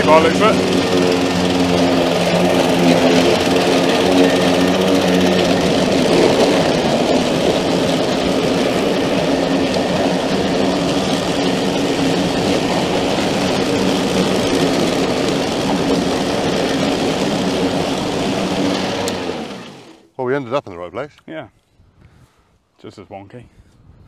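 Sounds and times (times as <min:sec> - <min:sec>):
lawn mower motor hum: 0:00.0 - 0:20.1.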